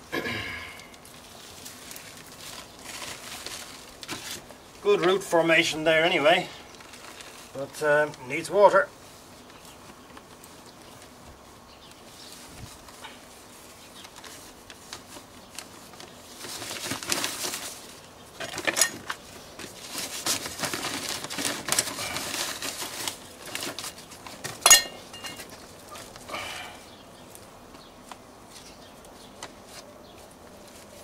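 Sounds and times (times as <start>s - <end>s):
dry compost scraping: 0.0s - 31.0s
plastic bag rustling and crinkling: 0.7s - 31.0s.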